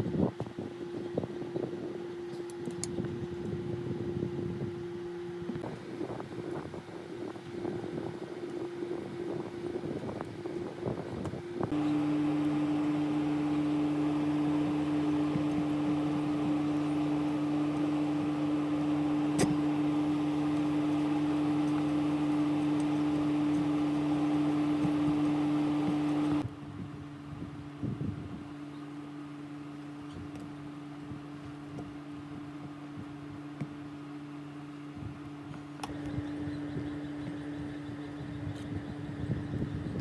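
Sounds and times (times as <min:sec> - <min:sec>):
small machine humming: 0:00.0 - 0:40.0.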